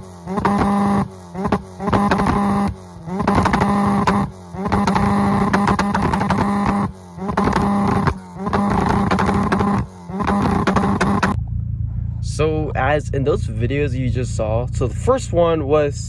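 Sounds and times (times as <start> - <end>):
car engine on launch limiter popping: 0.0 - 16.0.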